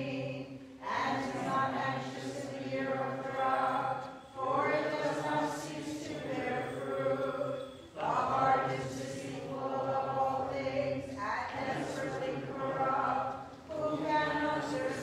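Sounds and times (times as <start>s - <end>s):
voices chanting: 0.0s - 15.0s.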